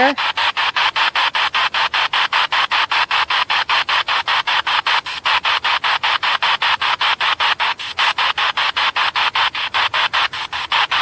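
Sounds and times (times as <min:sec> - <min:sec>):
pulsing radio static: 0:00.0 - 0:11.0.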